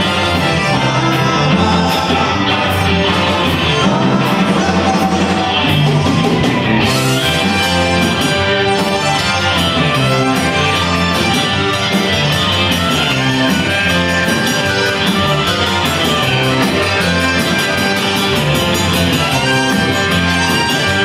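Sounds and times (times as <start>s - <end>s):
trumpet: 0.0s - 5.5s, 6.8s - 21.0s
accordion: 0.0s - 21.0s
rock band playing live: 0.0s - 21.0s.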